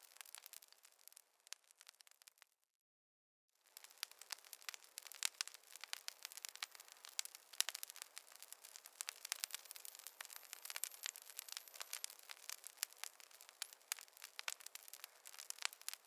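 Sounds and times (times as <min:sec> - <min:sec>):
wood fire crackling: 0:00.0 - 0:02.5, 0:03.6 - 0:16.0.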